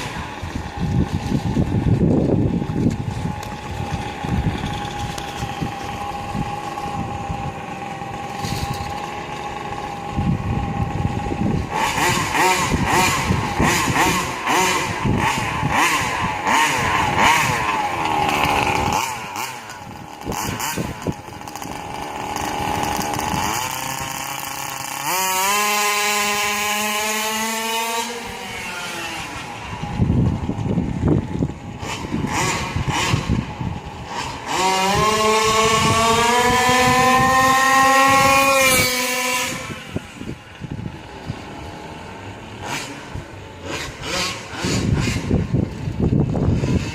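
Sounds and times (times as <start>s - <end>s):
two-stroke engine revving: 0.0s - 46.9s.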